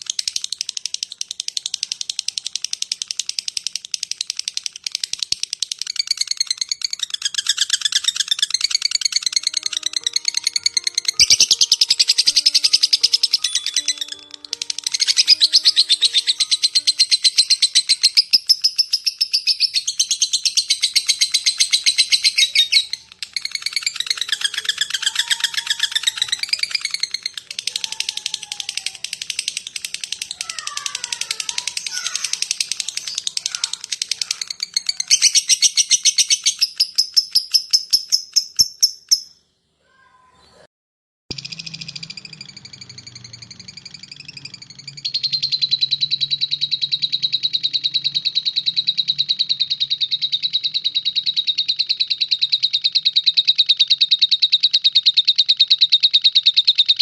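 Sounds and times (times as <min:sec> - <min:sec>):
lovebird rapid ticking chatter: 0:00.0 - 0:39.3, 0:41.3 - 0:57.0.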